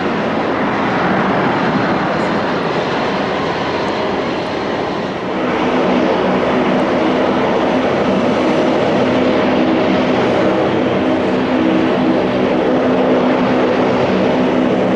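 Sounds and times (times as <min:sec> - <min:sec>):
airliner engine roar: 0:00.0 - 0:14.9.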